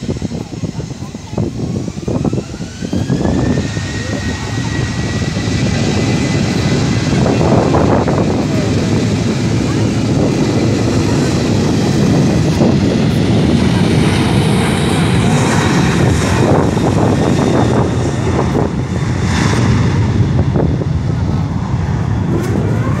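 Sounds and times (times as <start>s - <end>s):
engine whine rising: 0.0s - 23.0s
jet engines running: 0.0s - 23.0s.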